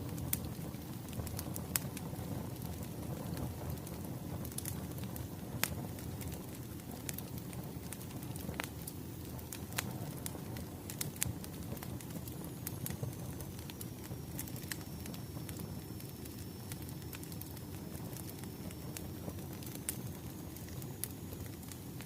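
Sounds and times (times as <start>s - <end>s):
wood fire rumbling: 0.0s - 22.0s
logs crackling and popping: 0.1s - 22.0s.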